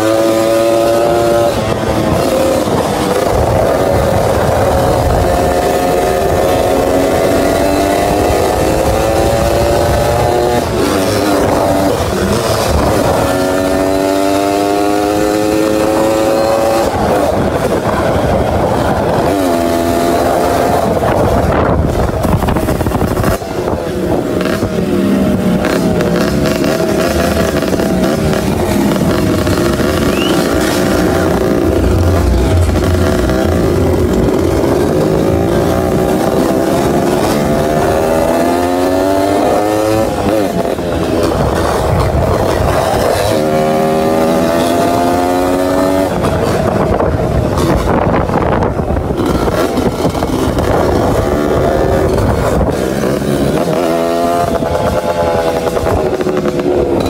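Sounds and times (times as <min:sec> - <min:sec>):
motorcycle engine revving hard: 0:00.0 - 0:57.0.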